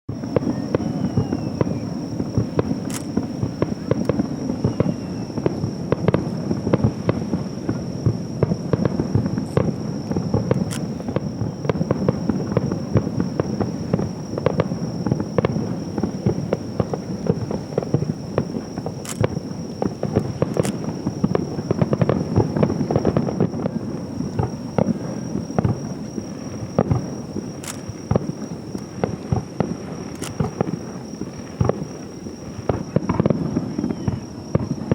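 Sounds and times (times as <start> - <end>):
fireworks booming and crackling: 0.1 - 34.9
steady high-pitched tone: 0.2 - 34.2.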